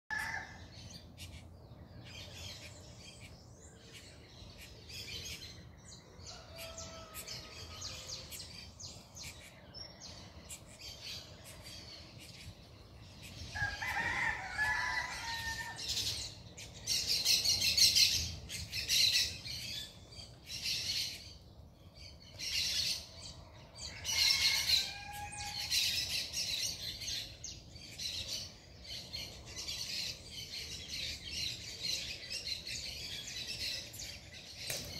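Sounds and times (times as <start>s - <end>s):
longer lower bird calls: 0.1s - 34.9s
small birds chirping and twittering: 0.1s - 34.9s.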